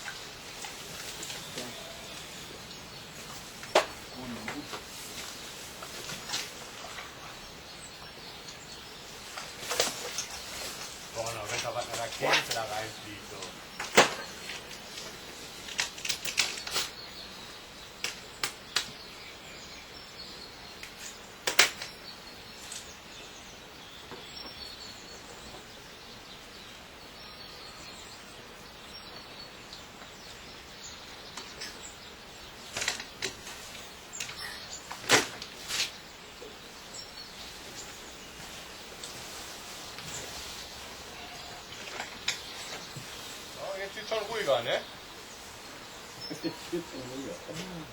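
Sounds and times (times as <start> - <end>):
outdoor background noise: 0.0 - 47.9.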